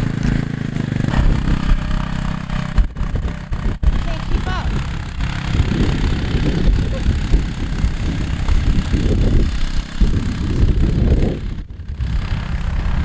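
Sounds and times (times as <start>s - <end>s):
atv engine rumbling under load: 0.0s - 13.0s.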